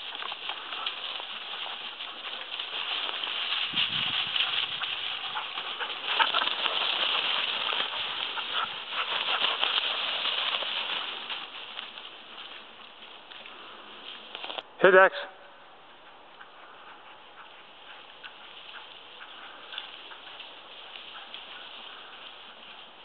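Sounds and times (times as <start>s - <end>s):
grass rustling as dogs run: 0.0s - 14.6s, 15.9s - 23.0s.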